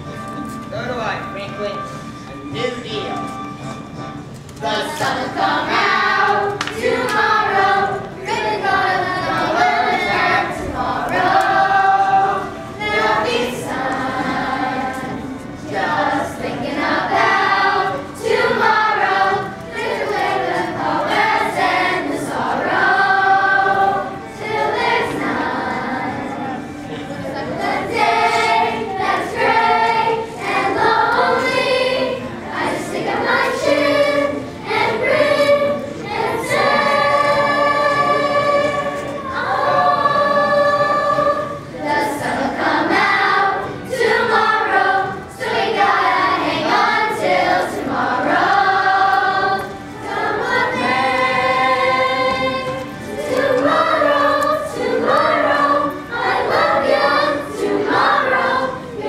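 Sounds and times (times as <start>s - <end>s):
children's chorus singing: 4.6s - 59.0s.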